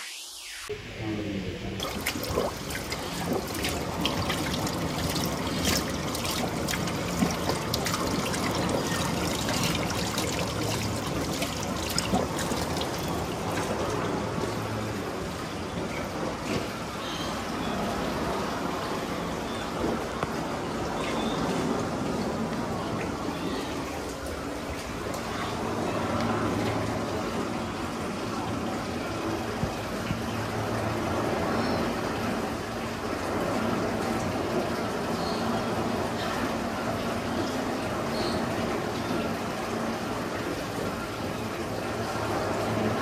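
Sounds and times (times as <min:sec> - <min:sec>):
water trickling and splashing: 0:01.6 - 0:43.0.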